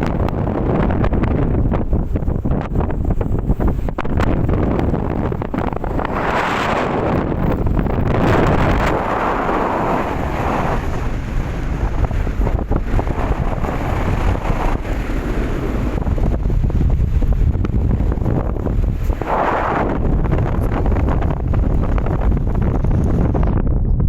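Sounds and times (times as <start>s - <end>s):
sea and ship noise: 0.0s - 24.0s
wind buffeting the microphone: 0.0s - 24.0s.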